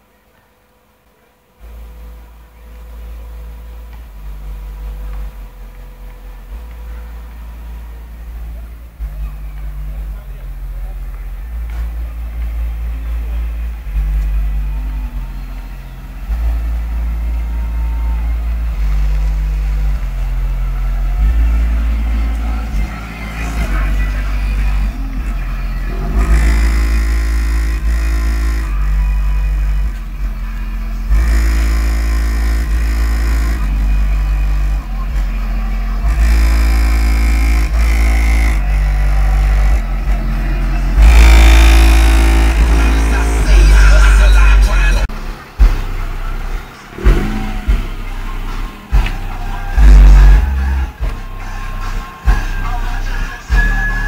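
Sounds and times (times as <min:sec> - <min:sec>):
deep bass from car subwoofers: 0:00.0 - 0:54.0.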